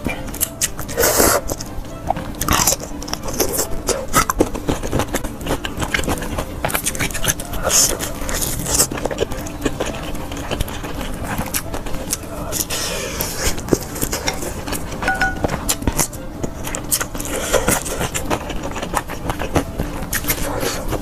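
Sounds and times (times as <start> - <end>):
wet chewing with small clicks: 0.2 - 21.0.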